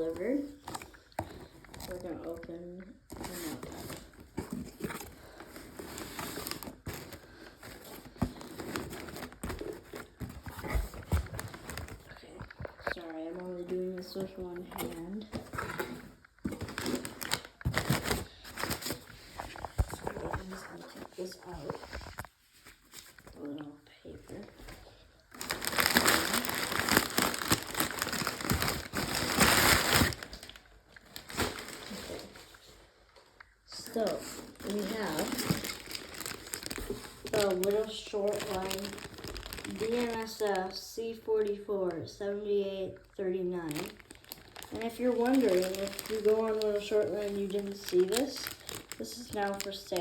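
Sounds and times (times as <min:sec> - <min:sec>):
packaging rustling and crinkling: 0:00.0 - 0:40.8, 0:43.6 - 0:50.0.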